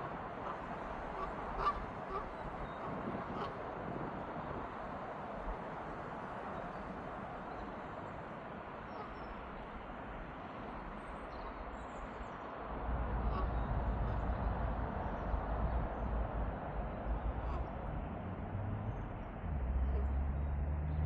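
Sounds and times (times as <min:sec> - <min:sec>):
distant jet engines roaring overhead: 0:00.0 - 0:21.0.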